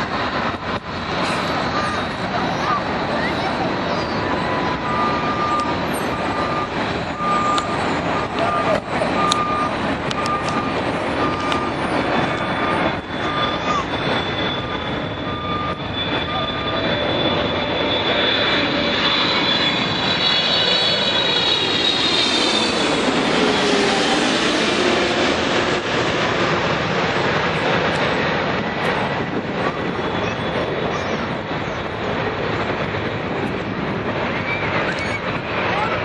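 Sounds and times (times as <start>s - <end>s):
jet airliner passing: 0.0s - 36.0s.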